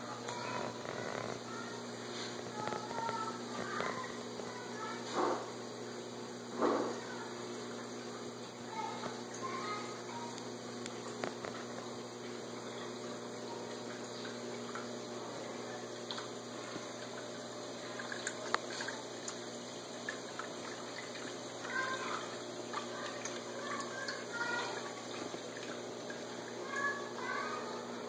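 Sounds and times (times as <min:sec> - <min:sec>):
aquarium equipment hum and water: 0:00.0 - 0:28.0.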